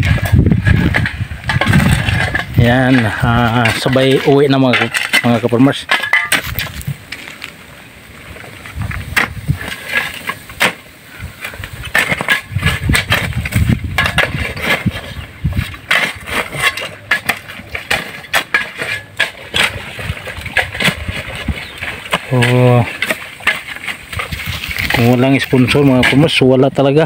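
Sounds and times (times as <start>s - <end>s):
shovels scraping through gravel: 0.0s - 27.0s.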